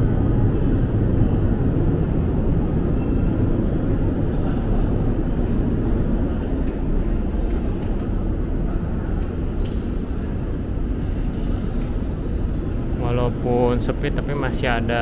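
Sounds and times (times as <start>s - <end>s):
low rumbling indoor hall noise: 0.0s - 15.0s.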